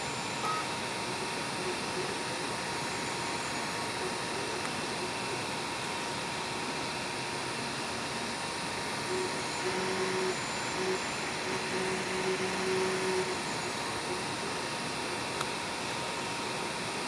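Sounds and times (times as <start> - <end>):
fans whirring: 0.0 - 17.0
stepper motors humming: 0.1 - 16.6.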